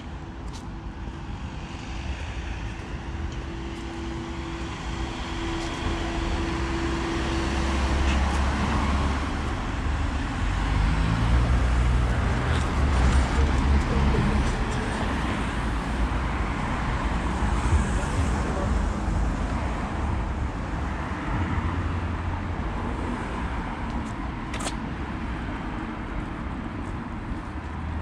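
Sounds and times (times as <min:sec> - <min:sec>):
street traffic: 0:00.0 - 0:28.0
vehicle engine hum: 0:00.0 - 0:28.0.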